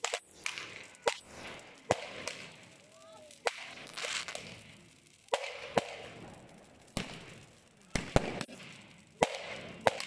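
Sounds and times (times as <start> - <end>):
fireworks cracking: 0.0 - 10.0
fireworks hissing and crackling: 0.0 - 10.0.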